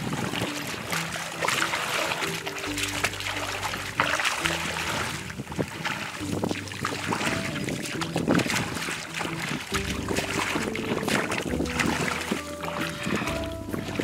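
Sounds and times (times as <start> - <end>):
background music with low notes: 0.0 - 14.0
water splashing: 0.0 - 14.0.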